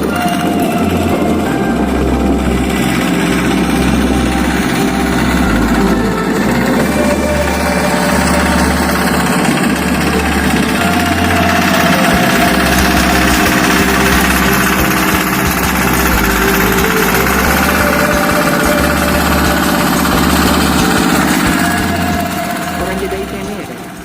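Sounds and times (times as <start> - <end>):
engine running with low throb: 0.0 - 24.0.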